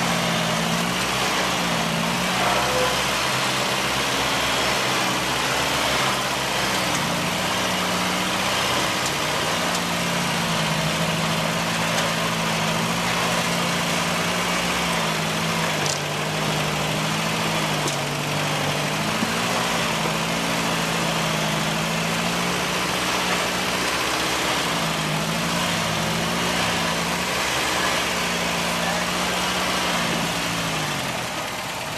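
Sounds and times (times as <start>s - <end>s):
off-road vehicle engine revving: 0.0s - 31.9s.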